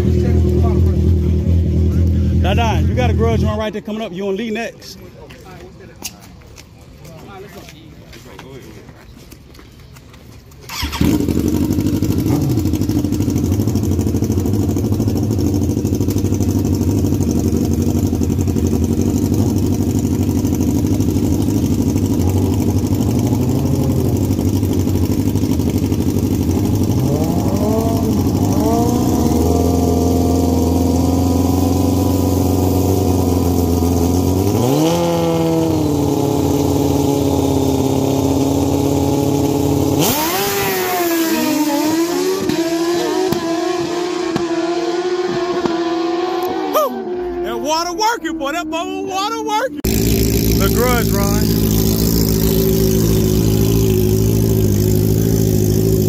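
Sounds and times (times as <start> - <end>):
motorcycle engine idling and revving: 0.0 - 3.9, 10.6 - 56.0.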